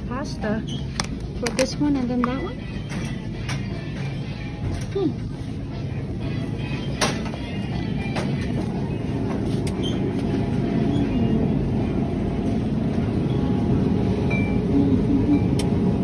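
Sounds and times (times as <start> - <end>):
supermarket background rumble: 0.0 - 16.0.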